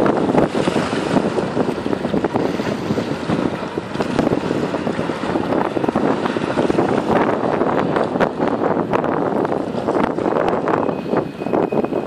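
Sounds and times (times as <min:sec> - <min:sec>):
boat wake on choppy water: 0:00.0 - 0:12.0
motor boat rushing: 0:00.0 - 0:12.0
wind buffeting microphone: 0:00.0 - 0:12.0.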